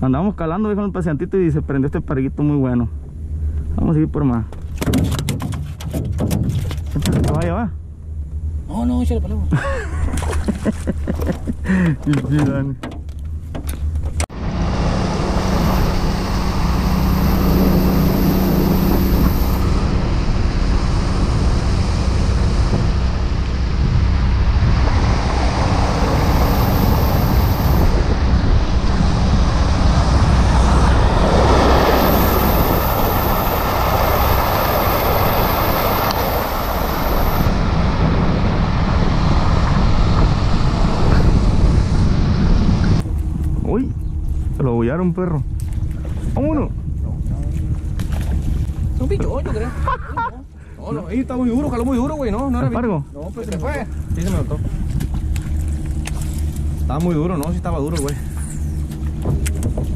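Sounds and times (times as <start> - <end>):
outboard motor running: 9.6 - 44.7, 45.4 - 59.9
wind and water rushing: 9.8 - 59.9.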